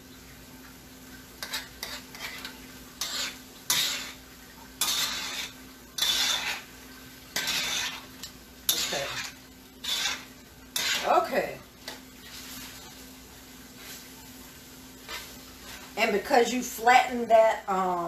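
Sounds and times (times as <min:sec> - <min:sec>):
faint steady hum: 0:00.0 - 0:18.0
sauce sizzling in a pan: 0:00.0 - 0:18.0.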